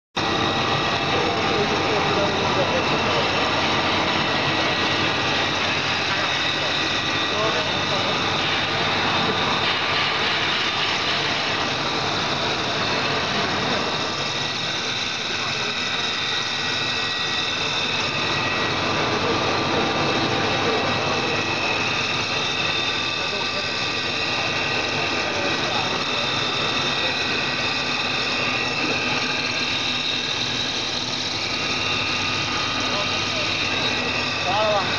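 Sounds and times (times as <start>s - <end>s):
loud steady machine noise: 0.2s - 34.9s
steady high-pitched tones: 0.2s - 34.9s.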